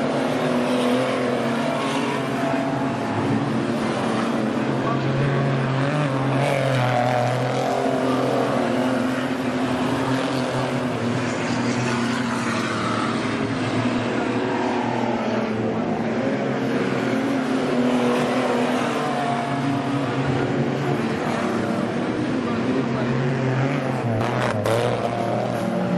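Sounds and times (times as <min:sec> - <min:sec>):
race car engines: 0:00.0 - 0:25.9.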